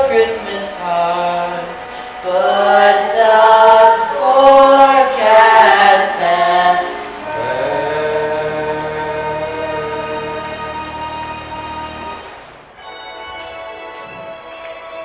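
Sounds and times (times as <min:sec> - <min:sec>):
children singing together: 0:00.0 - 0:12.4
soft musical accompaniment: 0:00.0 - 0:15.0.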